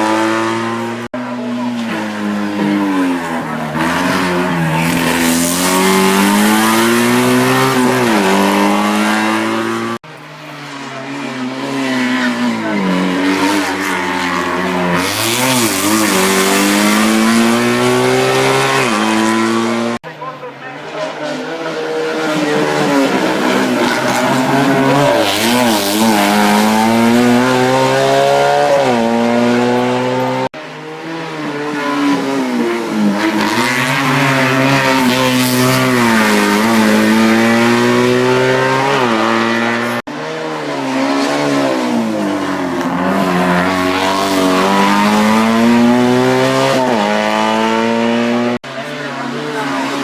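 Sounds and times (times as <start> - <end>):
race car engines at full throttle: 0.0 - 50.0.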